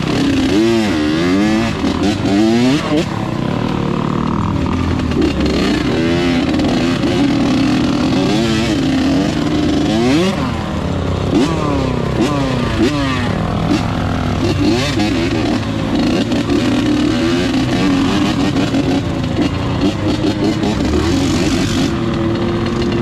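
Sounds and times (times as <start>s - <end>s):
small vehicle engine revving: 0.0s - 23.0s.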